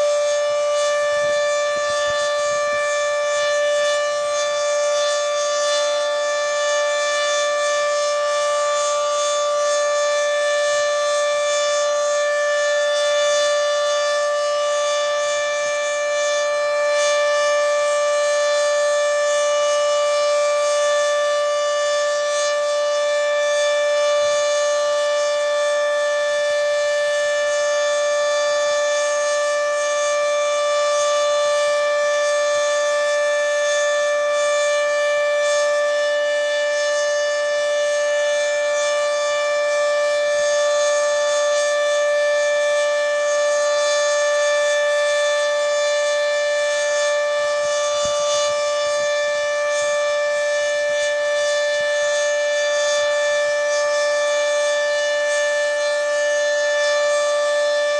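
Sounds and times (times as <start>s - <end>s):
tornado siren steady tone: 0.0s - 57.9s.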